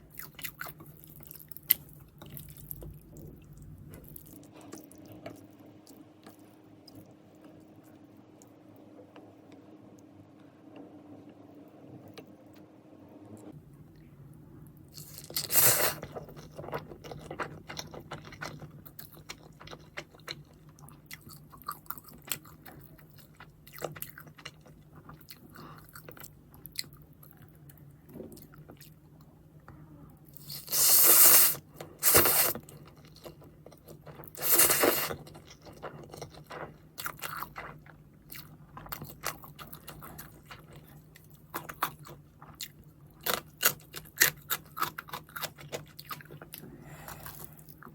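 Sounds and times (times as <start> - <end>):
chewing fried chicken: 0.1 - 8.6, 14.9 - 29.4, 30.2 - 47.9.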